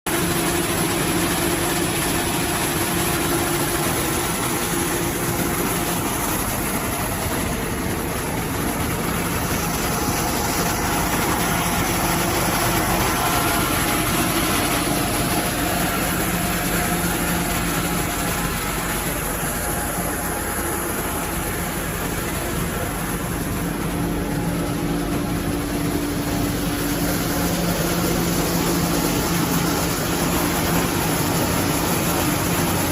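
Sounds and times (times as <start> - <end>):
constant rushing noise: 0.1 - 32.9
diesel engine of sweeper truck: 0.1 - 32.9.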